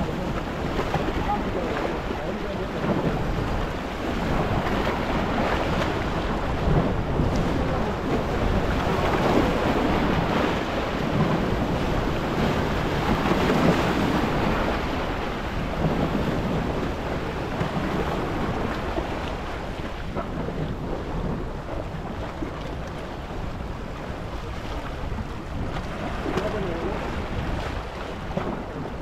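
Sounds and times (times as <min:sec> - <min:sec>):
sea waves: 0:00.0 - 0:29.0
wind on microphone: 0:00.0 - 0:29.0.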